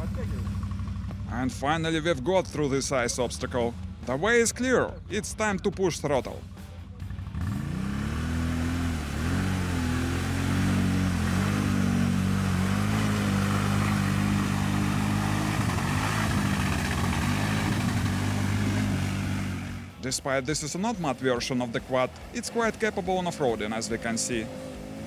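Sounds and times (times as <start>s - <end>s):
quad bike engine revving: 0.0s - 5.6s, 6.2s - 25.0s.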